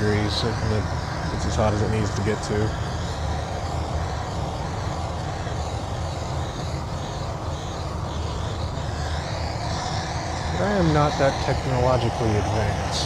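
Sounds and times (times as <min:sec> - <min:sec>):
torch flame rushing: 0:00.0 - 0:13.0.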